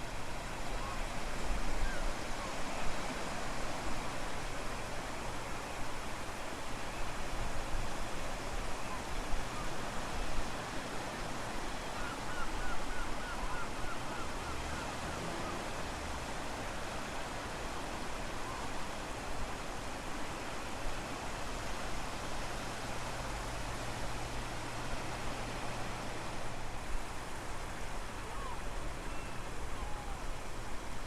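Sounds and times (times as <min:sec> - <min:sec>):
ocean surf: 0:00.0 - 0:31.0.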